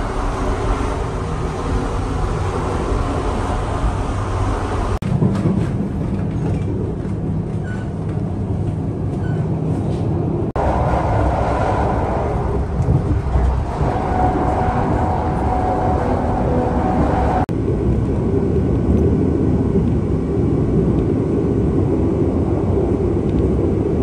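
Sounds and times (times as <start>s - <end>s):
electric train rumble and hum: 0.0s - 24.0s.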